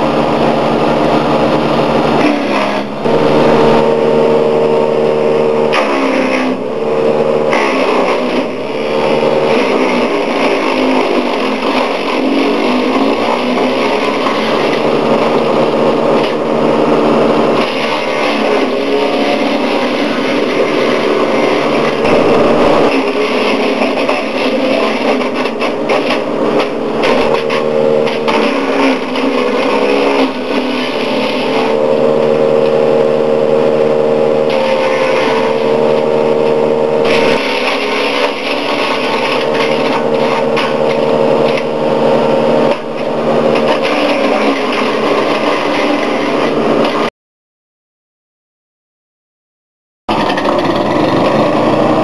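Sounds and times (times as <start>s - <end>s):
wood chipper engine running: 0.0s - 47.1s, 50.1s - 52.0s.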